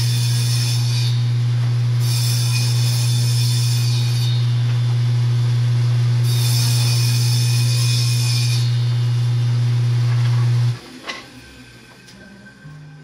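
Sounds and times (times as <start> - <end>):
table saw motor humming: 0.0 - 13.0.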